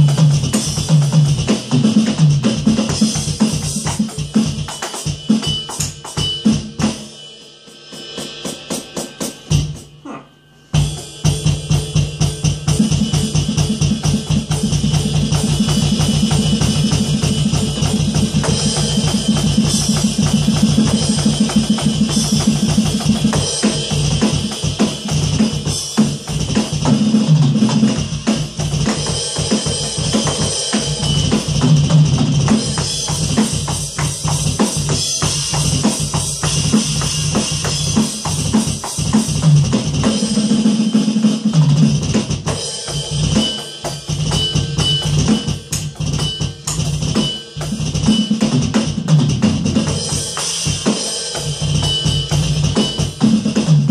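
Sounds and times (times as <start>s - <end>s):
electronic drum kit groove: 0.0s - 53.9s.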